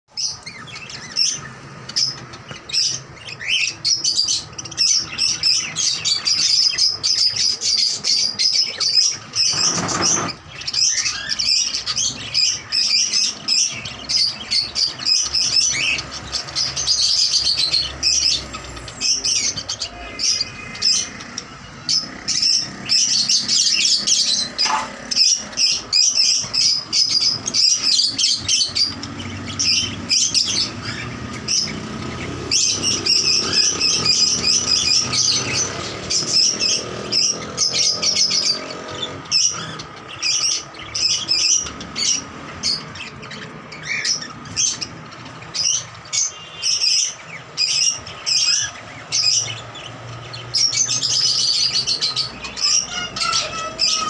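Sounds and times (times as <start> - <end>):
caged birds chirping: 0.0 - 54.0.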